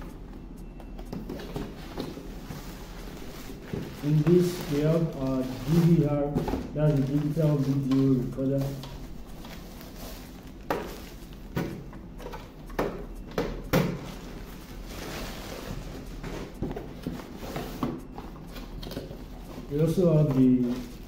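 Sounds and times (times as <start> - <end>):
plastic wrapper rustling: 1.5 - 11.6, 14.0 - 21.0.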